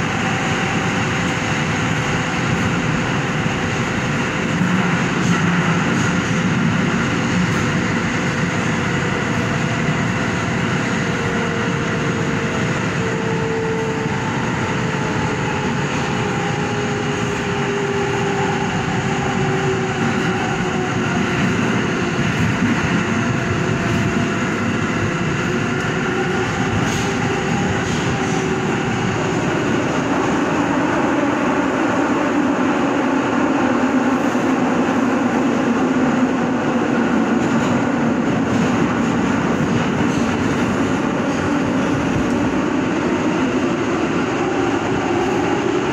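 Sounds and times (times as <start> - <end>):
subway train wheels rumbling: 0.0 - 45.9.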